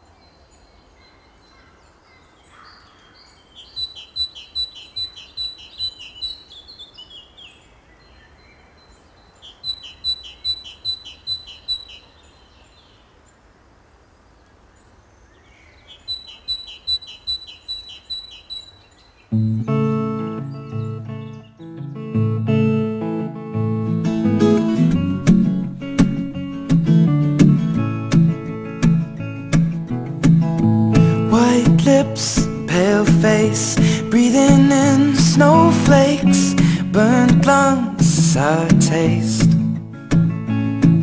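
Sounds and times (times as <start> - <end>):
songbird singing: 0.0 - 41.0.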